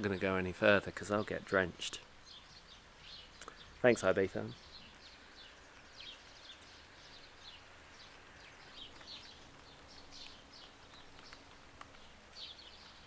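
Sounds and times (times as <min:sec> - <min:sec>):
light background noise: 0:00.0 - 0:13.0.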